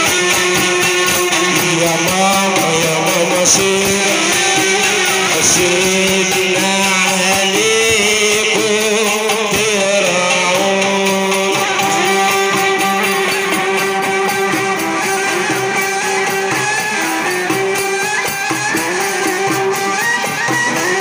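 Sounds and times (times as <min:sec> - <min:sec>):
frame drum beat: 0:00.0 - 0:21.0.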